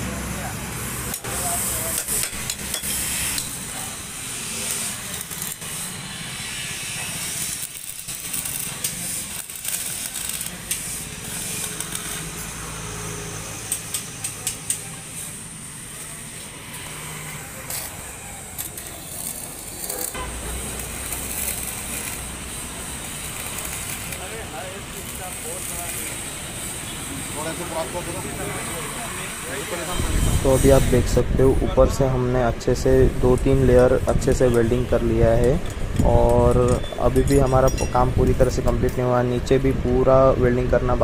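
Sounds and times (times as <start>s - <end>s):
welding arc crackling and hissing: 0.0s - 40.7s.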